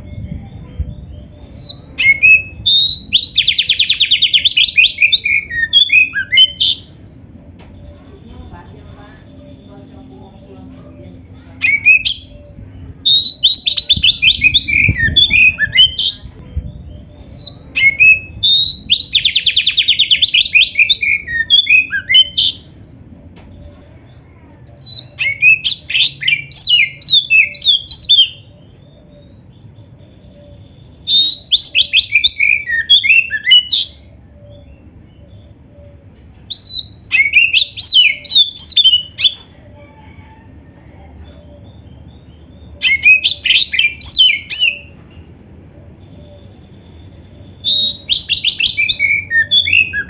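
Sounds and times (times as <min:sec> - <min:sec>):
songbird trills and whistles: 0:00.0 - 0:07.0, 0:11.6 - 0:22.8, 0:23.5 - 0:40.4, 0:41.2 - 0:45.2, 0:46.0 - 0:50.0.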